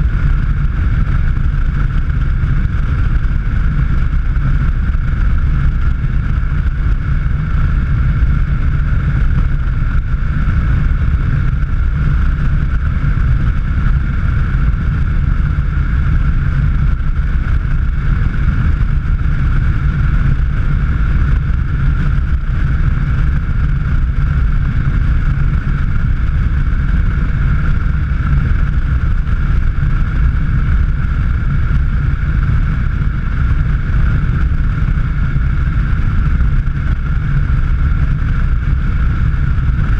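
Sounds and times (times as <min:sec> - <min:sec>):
car driving at speed: 0:00.0 - 0:39.9
steady high whine: 0:00.0 - 0:39.9.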